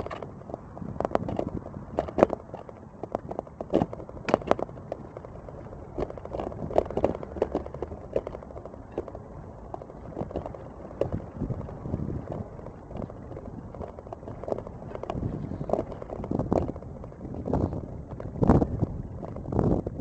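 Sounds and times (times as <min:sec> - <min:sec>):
wheels clicking over slab joints: 0:00.0 - 0:20.0
wheels rolling over paving: 0:00.0 - 0:20.0.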